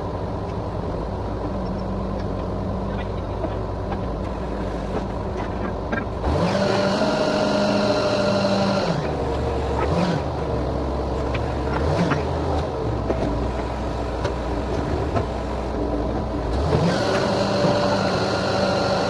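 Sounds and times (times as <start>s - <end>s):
drilling rig engine running: 0.0s - 19.0s.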